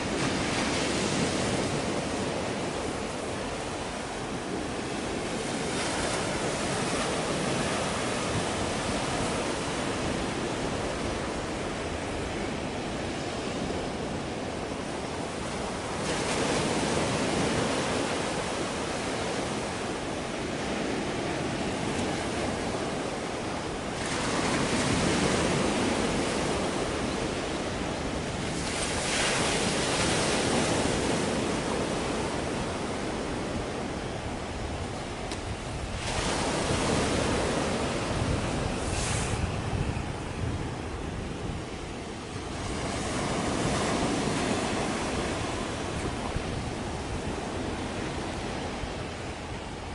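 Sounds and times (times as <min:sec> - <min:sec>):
sea waves breaking: 0:00.0 - 0:49.9.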